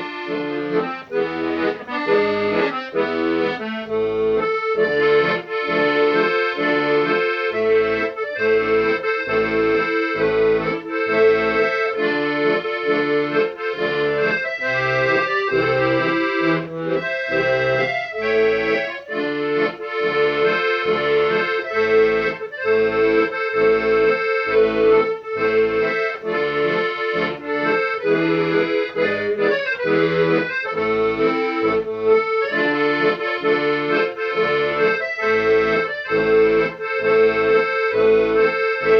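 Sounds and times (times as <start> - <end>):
regular bass beat: 0.0 - 38.9.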